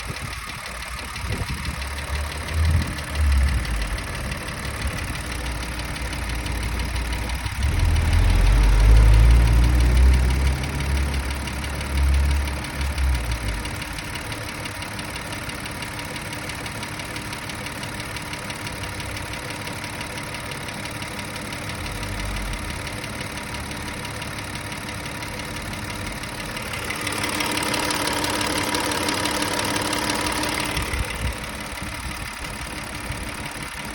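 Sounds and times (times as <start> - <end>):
car engine idling with knock: 0.0 - 33.9.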